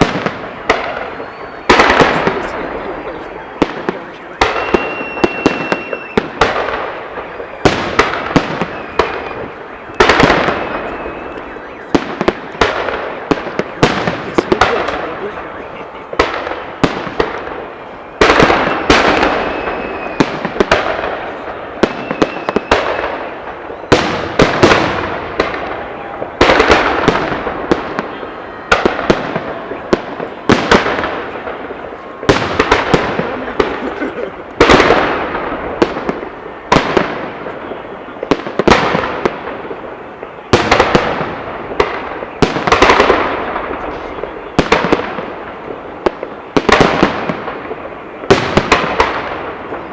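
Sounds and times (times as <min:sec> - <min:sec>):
fireworks bangs with crackle: 0:00.0 - 0:49.9.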